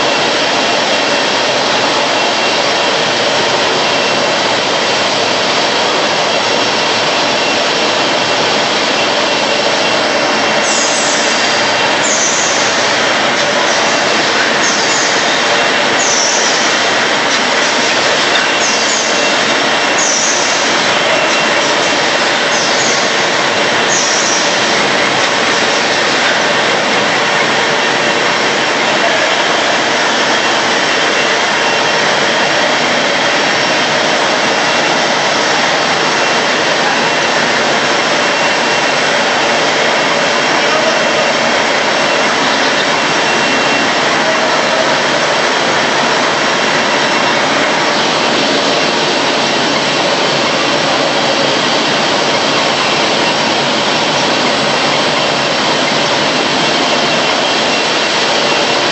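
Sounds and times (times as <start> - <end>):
paper cutting machine running: 0.0 - 58.9.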